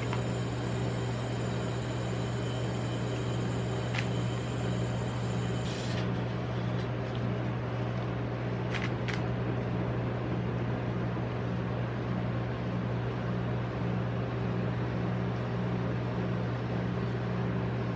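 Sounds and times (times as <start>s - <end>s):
compressor humming: 0.0s - 17.9s.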